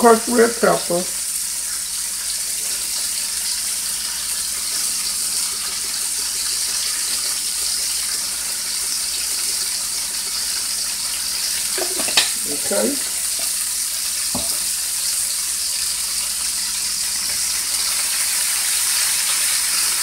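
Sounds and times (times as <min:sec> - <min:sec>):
meat sizzling in a frying pan: 0:00.0 - 0:20.0.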